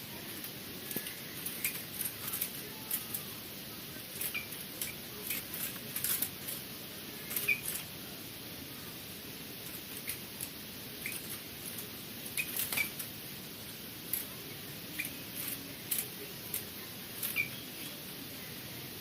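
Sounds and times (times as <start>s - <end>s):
caged birds chirping: 0.0s - 19.0s
steady hiss: 0.0s - 19.0s.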